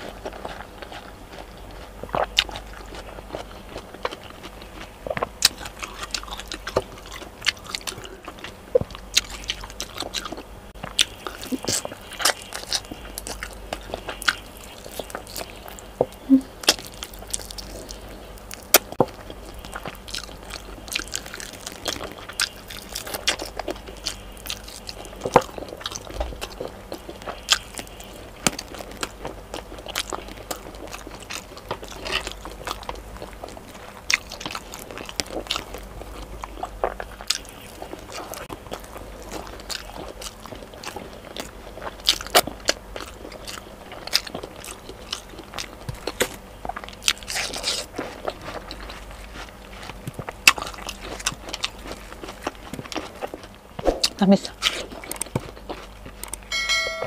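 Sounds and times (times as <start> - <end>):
wet chewing: 0.0 - 56.7.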